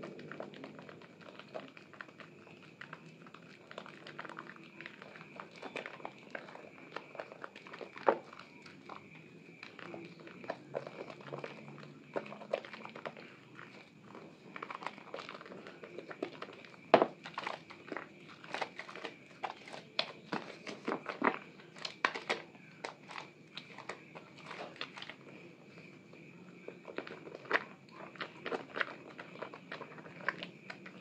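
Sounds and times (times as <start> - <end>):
wet soap squelching in hands: 0.0 - 31.0.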